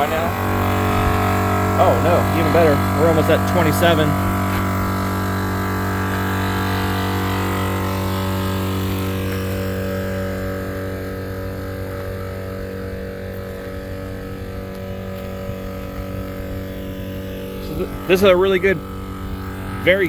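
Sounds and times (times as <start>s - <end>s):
air compressor humming: 0.0s - 20.0s.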